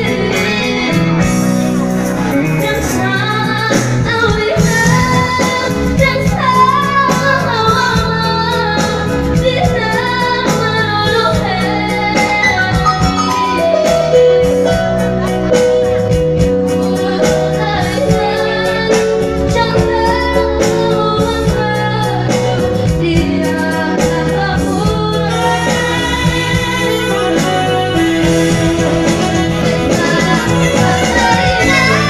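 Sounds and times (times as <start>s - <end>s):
band playing: 0.0s - 6.8s, 9.0s - 32.0s
woman singing into microphone: 0.0s - 32.0s.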